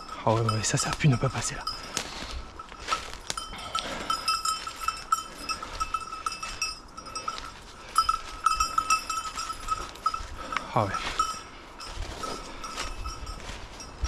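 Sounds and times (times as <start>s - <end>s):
dog bell jangling: 0.0s - 14.0s.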